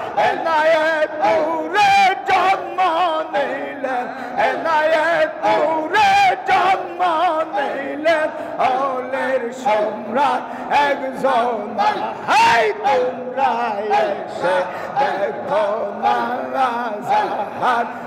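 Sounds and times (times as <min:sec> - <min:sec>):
men singing devotional song: 0:00.0 - 0:18.0.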